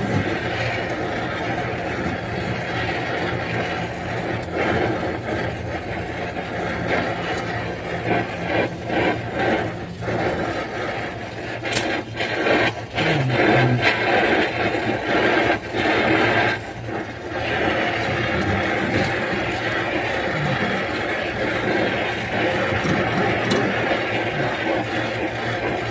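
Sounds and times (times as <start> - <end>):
torch flame hissing: 0.0 - 25.9.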